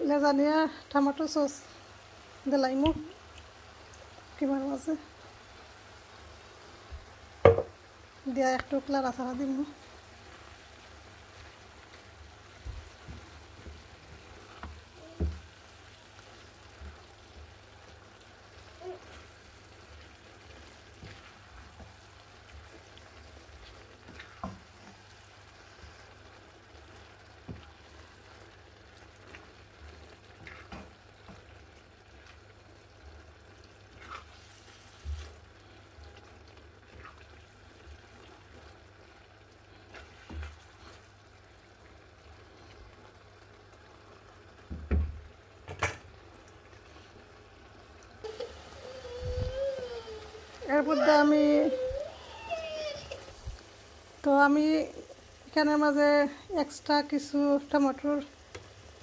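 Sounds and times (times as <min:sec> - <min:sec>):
meat sauce sizzling in frying pan: 0:00.0 - 0:59.0.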